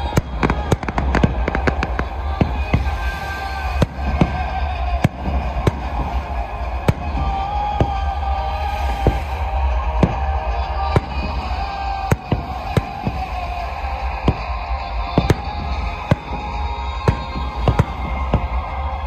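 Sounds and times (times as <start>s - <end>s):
fireworks bangs: 0.0s - 19.0s
steady music: 0.0s - 19.0s.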